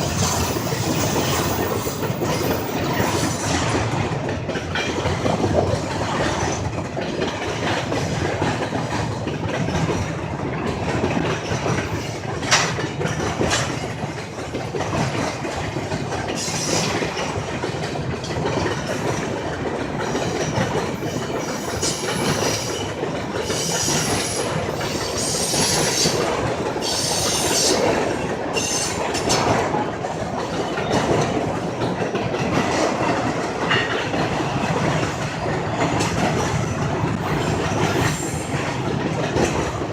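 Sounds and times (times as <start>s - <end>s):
freight train rumbling: 0.0s - 39.9s.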